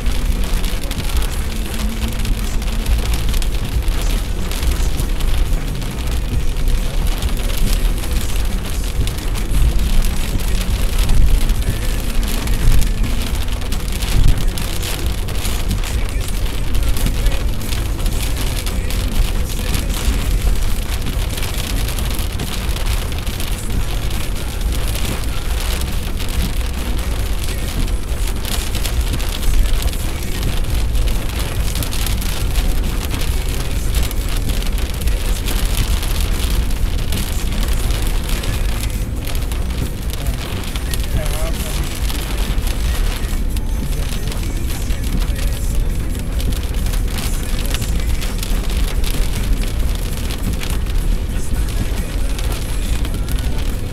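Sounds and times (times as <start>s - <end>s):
heavy rain on a vehicle: 0.0s - 53.9s
low rumble: 0.0s - 53.9s.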